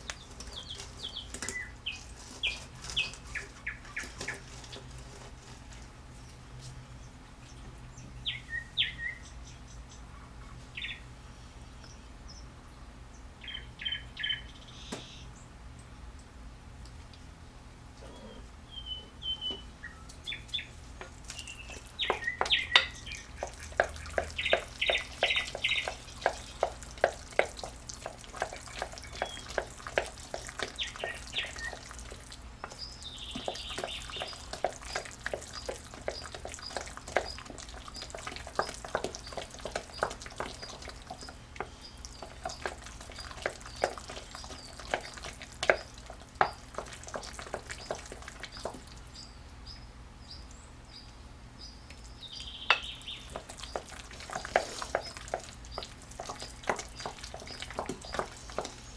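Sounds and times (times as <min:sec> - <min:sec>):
birds chirping: 0:00.0 - 0:04.9, 0:06.2 - 0:11.1, 0:11.8 - 0:15.6, 0:18.0 - 0:58.9.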